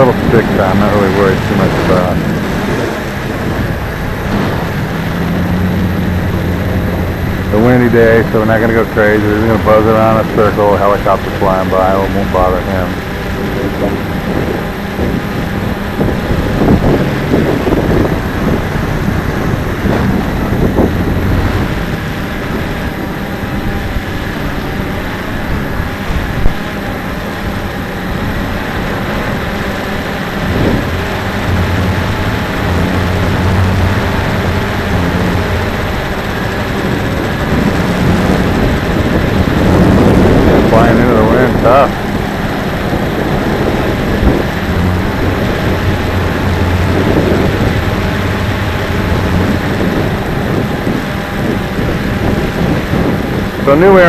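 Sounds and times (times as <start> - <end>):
drone motors and propellers: 0.0 - 54.0
wind buffeting microphone: 0.0 - 54.0.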